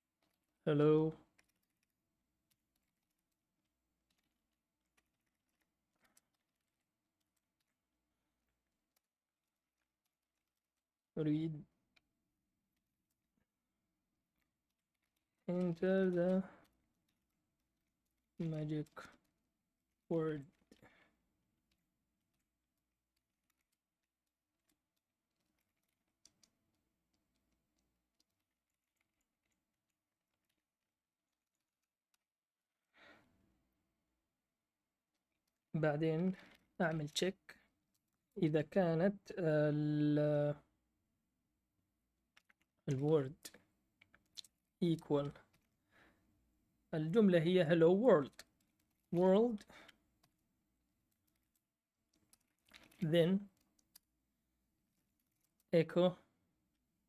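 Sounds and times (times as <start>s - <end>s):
faint keyboard typing: 0.0s - 40.8s, 41.8s - 57.0s.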